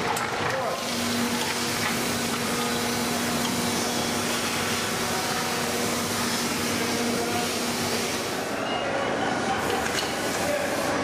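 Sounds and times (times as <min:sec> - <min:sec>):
foundry machinery noise: 0:00.0 - 0:11.0.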